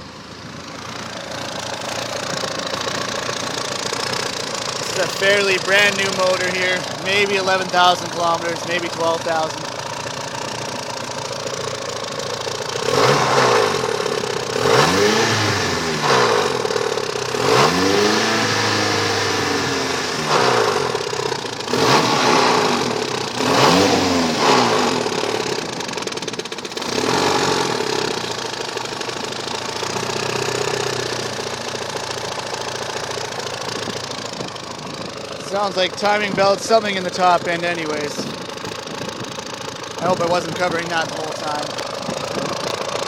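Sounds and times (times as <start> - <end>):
car engine revving and idling: 0.0 - 43.0.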